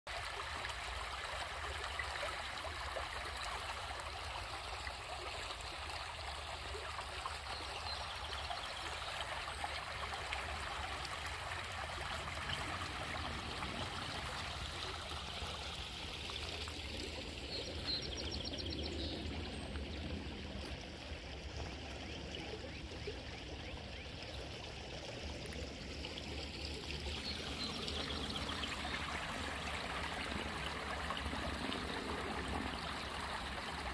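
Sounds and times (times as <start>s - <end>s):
creek running over pebbles: 0.1s - 33.9s.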